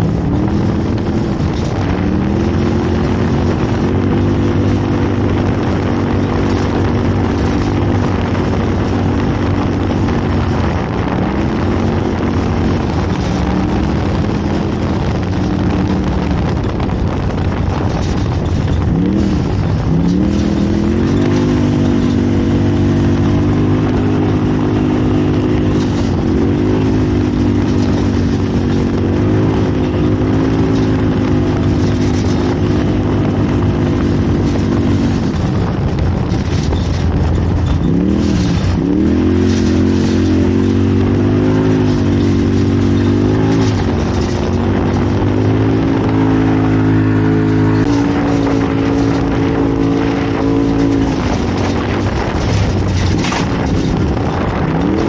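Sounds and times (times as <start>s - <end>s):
knocks over rough ground: 0.0s - 55.0s
race vehicle engine running hard: 0.0s - 55.0s.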